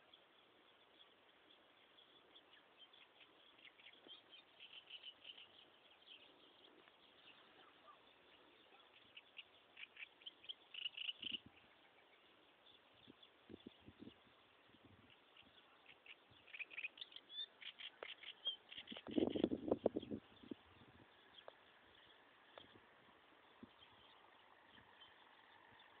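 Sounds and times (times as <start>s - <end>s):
high chirps of small wildlife: 0.0s - 26.0s.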